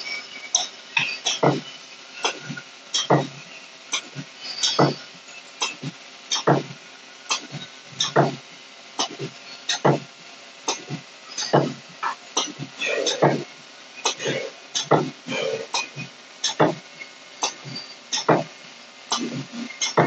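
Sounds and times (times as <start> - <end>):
spot welding machine thumps: 0.6 - 8.4, 9.0 - 10.1, 10.7 - 20.0.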